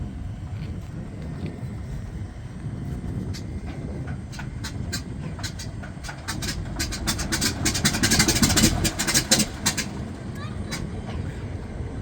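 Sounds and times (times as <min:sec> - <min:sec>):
radial engine running: 0:00.0 - 0:12.0.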